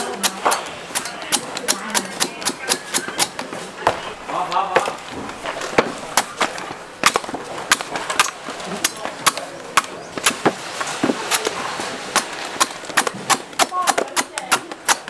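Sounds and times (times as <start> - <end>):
blade hacking coconuts: 0.0 - 4.0, 5.6 - 15.0.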